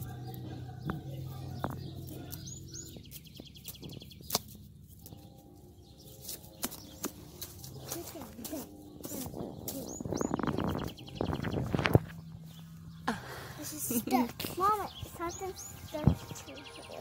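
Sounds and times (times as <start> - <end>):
bird trill: 0.0 - 17.0
small birds chirping: 0.0 - 17.0.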